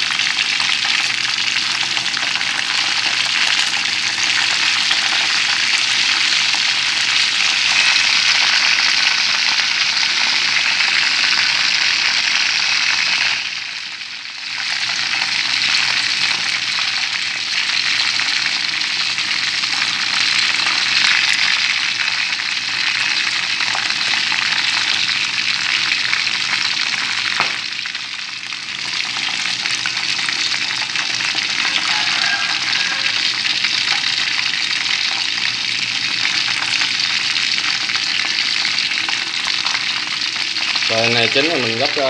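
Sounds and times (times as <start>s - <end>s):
chicken frying in oil: 0.0s - 42.0s.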